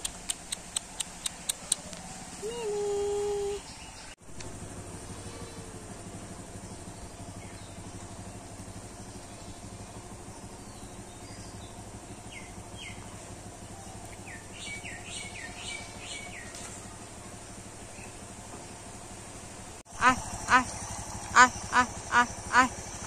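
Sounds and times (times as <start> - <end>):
small birds chirping: 0.0 - 4.2, 6.4 - 18.8, 19.9 - 23.0
low outdoor hum: 0.0 - 23.0.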